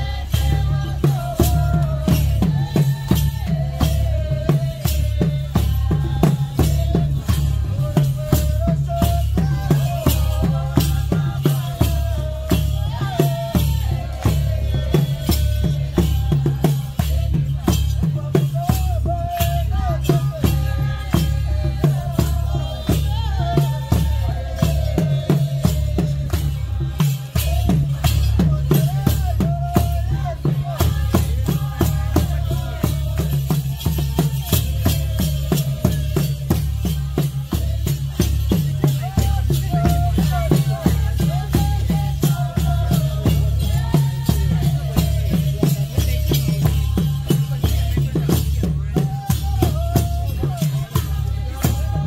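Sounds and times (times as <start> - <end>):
drums keeping steady beat: 0.0 - 52.0
rattling percussion: 0.0 - 52.0.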